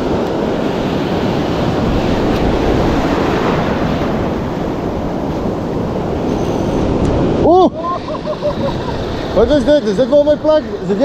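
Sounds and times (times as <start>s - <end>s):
surf washing on shore: 0.0s - 11.0s
wind buffeting microphone: 0.0s - 11.0s.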